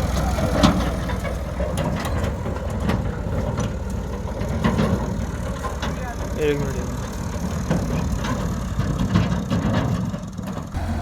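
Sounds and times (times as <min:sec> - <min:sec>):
diesel engine running: 0:00.0 - 0:11.0
engine knocks: 0:00.0 - 0:11.0.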